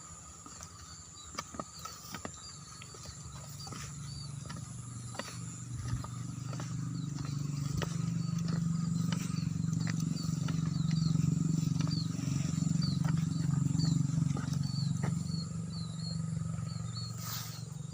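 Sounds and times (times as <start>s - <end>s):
frogs croaking: 0.0s - 17.9s.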